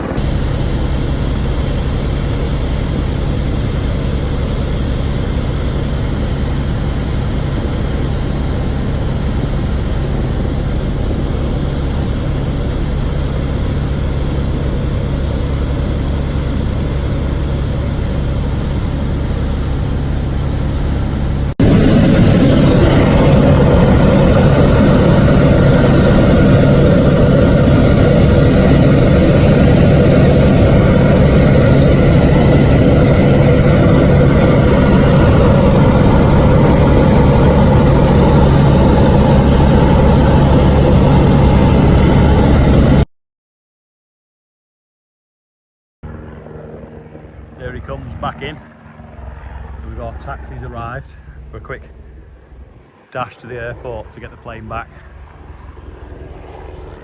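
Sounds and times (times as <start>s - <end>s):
helicopter engine and rotor: 0.0s - 43.1s, 46.0s - 57.0s.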